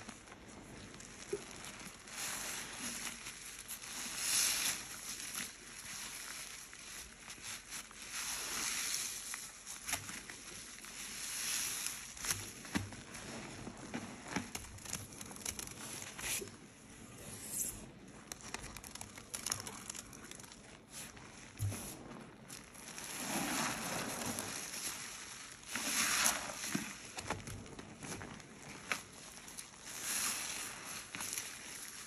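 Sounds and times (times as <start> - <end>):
sponges squelching in foam: 0.0 - 16.7, 17.5 - 32.0.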